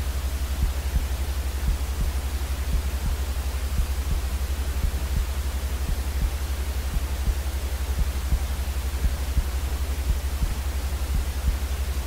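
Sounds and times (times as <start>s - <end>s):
low pulsing hum: 0.0s - 12.0s
white noise hiss: 0.0s - 12.0s.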